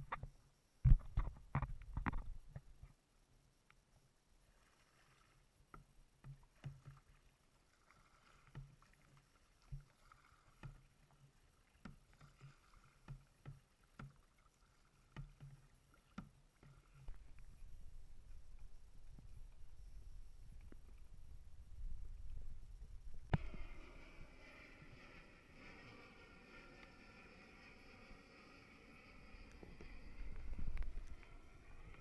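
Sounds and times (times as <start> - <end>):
faint wash of water: 4.2 - 32.0.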